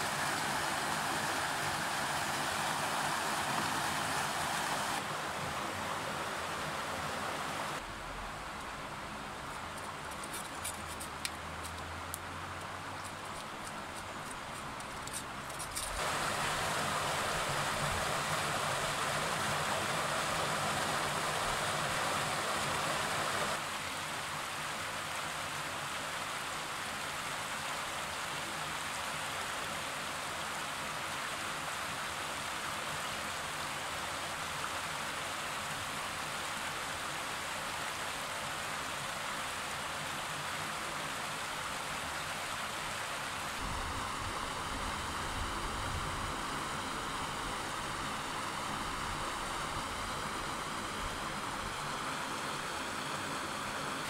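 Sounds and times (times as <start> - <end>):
river rushing over rocks: 0.0 - 10.0, 11.4 - 54.0.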